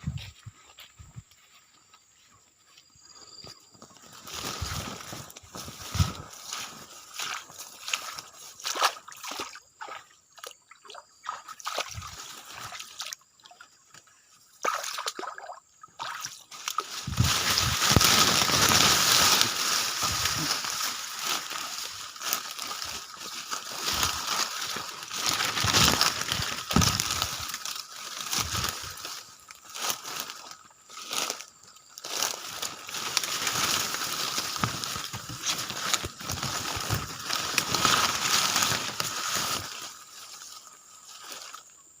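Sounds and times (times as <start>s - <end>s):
water sloshing and splashing: 4.2s - 14.0s, 14.6s - 31.3s, 32.0s - 41.6s.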